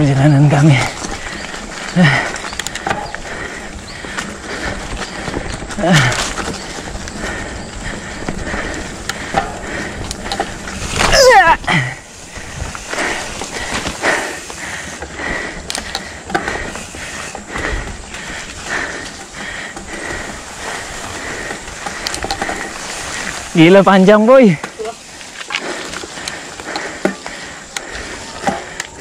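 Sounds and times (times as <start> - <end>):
bike rattling over dirt trail: 0.0 - 29.0.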